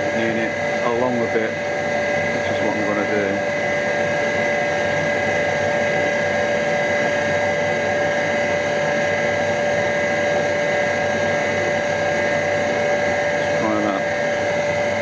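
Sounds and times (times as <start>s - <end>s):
grinding machine whining: 0.0s - 15.0s.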